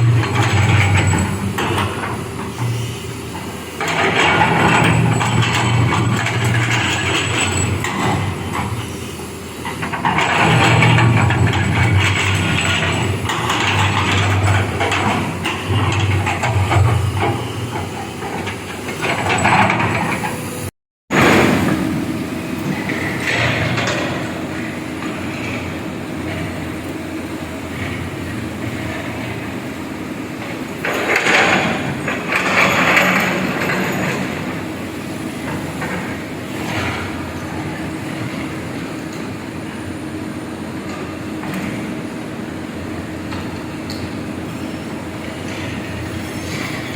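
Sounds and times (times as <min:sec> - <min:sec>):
excavator diesel engine digging: 0:00.0 - 0:46.9.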